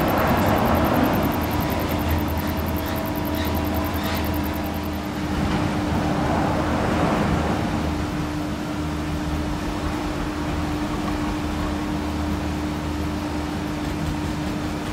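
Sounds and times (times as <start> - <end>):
lift machinery humming: 0.0 - 13.2.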